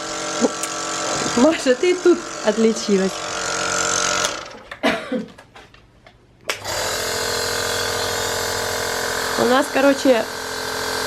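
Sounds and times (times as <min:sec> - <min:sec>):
nebulizer motor hum: 0:00.0 - 0:04.7, 0:06.5 - 0:11.0.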